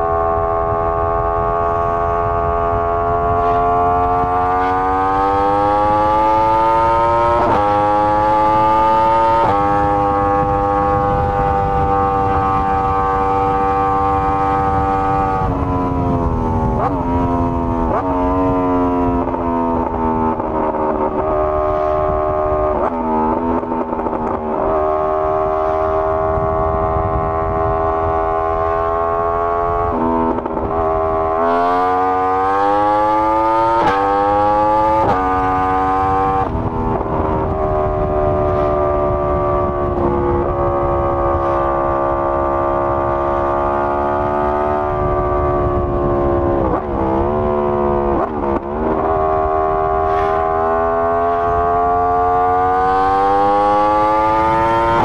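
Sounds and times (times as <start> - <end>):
motorcycle engine revving through gears: 0.0 - 55.0.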